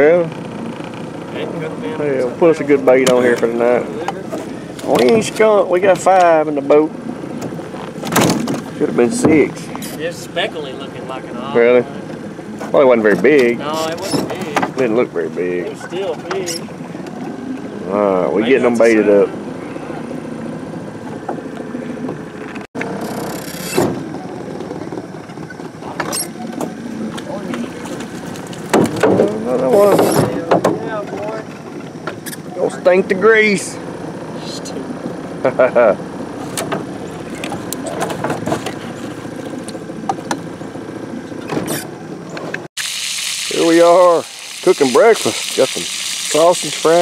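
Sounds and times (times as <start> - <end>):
outboard motor idling: 0.0 - 47.0.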